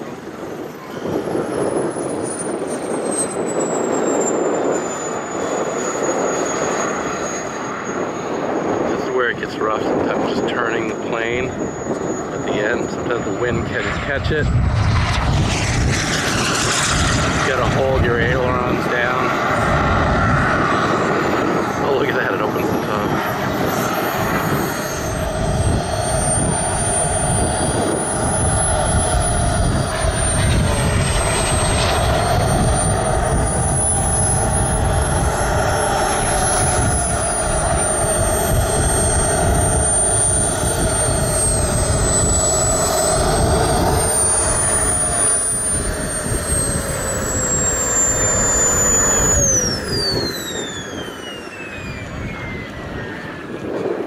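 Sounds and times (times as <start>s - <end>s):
rushing exhaust: 0.0s - 54.0s
turbine engine whining: 0.0s - 54.0s.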